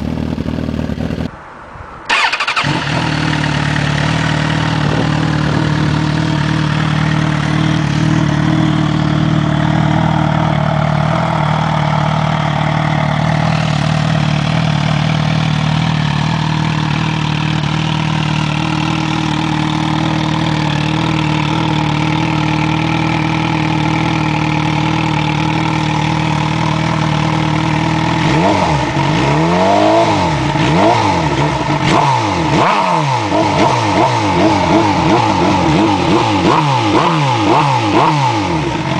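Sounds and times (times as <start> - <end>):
motorcycle engine idling: 0.0 - 1.3, 2.1 - 38.9
engine throttle blips: 2.1 - 38.9.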